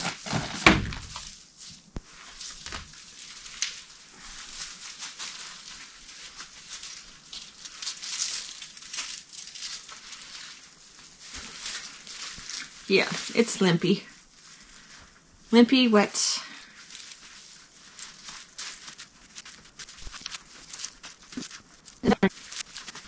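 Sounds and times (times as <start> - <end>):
leaves and stems rustling: 0.0 - 23.0.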